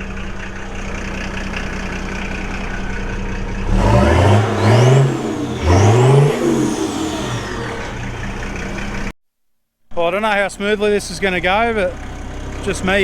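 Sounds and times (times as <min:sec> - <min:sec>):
diesel truck engine revving: 0:00.0 - 0:09.1, 0:10.1 - 0:13.0.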